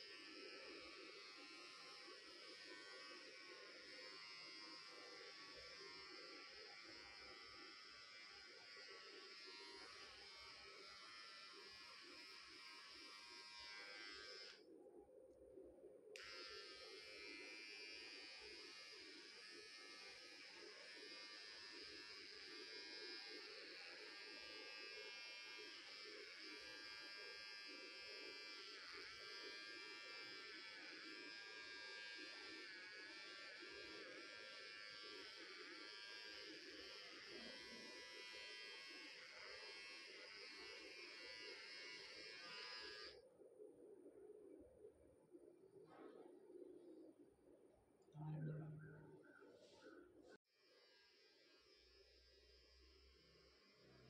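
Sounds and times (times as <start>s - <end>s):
electric hair clipper buzzing: 0.0s - 14.7s, 16.1s - 43.2s, 50.6s - 54.0s.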